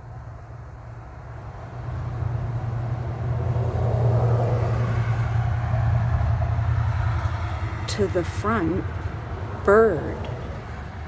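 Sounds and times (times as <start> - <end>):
vehicle rumble and tyre noise: 0.0 - 11.0.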